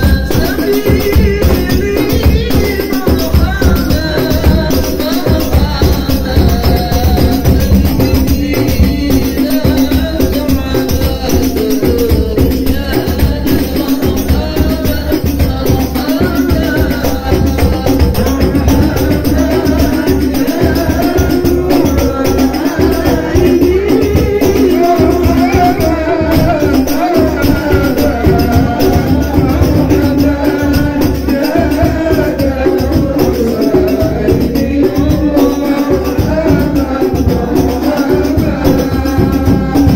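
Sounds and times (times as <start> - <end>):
frame drums playing a beat: 0.0 - 39.9
voices singing: 0.0 - 39.9.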